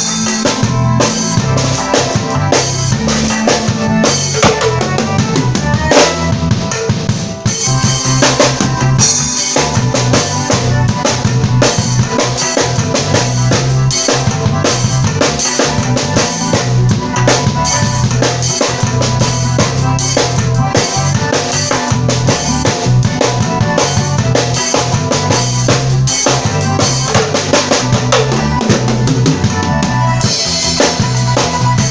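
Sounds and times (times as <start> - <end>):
drum kit groove: 0.0 - 31.9
worship song with bass and keyboard: 0.0 - 31.9.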